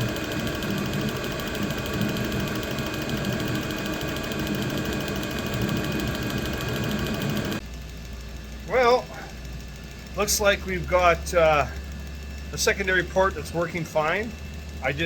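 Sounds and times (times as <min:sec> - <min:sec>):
diesel heater whirring: 0:00.0 - 0:15.0.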